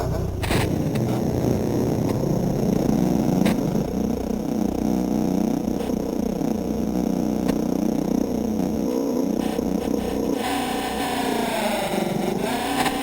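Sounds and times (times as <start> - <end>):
warbling drone of tones: 0.0 - 13.0.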